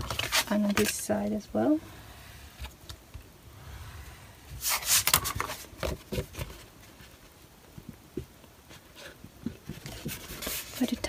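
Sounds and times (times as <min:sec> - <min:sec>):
cardboard rubbing and crackling: 0:00.0 - 0:08.0, 0:08.6 - 0:11.0.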